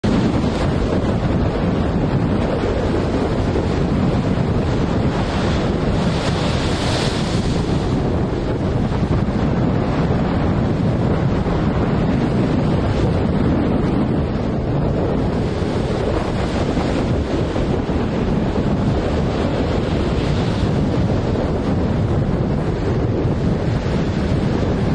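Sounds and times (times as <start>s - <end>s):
waves breaking: 0.0s - 24.9s
wind buffeting microphone: 0.0s - 24.9s.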